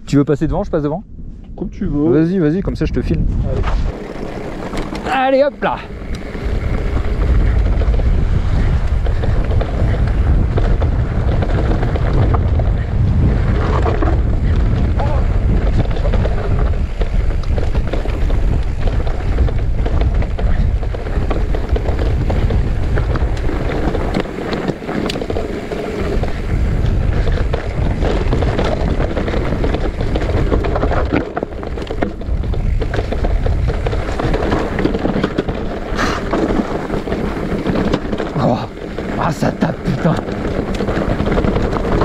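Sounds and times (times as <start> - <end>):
wind buffeting microphone: 0.0 - 42.0
tyres rumbling on trail: 1.7 - 42.0
bike knocks and rattles: 3.5 - 42.0.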